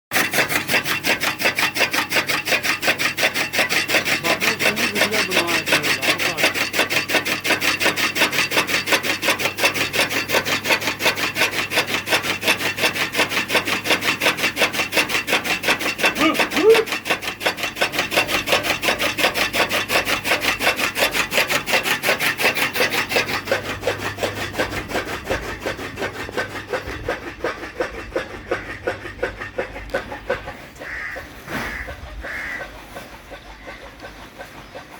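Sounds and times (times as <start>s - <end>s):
rasping strokes cutting fodder: 0.1s - 34.9s.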